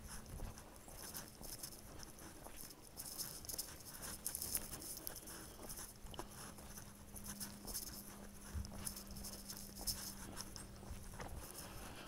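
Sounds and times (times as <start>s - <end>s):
faint steady hum: 0.0s - 12.0s
footsteps crunching on dirt trail: 0.0s - 12.0s.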